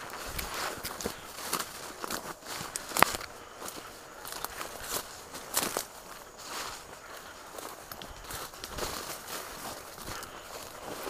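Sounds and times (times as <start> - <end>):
footsteps through undergrowth: 0.0 - 11.0
leaves and brush rustling: 0.0 - 11.0.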